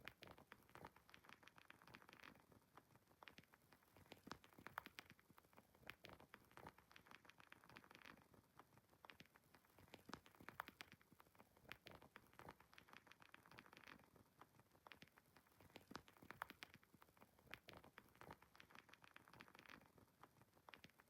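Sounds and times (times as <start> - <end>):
wood fire crackling: 0.1 - 21.0.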